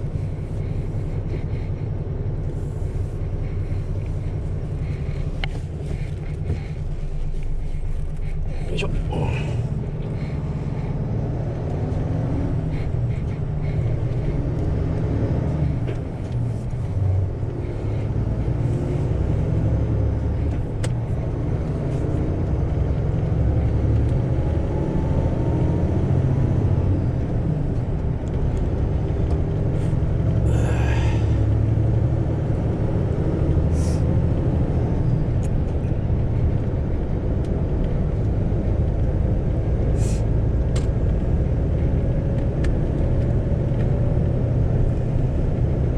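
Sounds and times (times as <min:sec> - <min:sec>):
truck diesel engine rumble: 0:00.0 - 0:45.9.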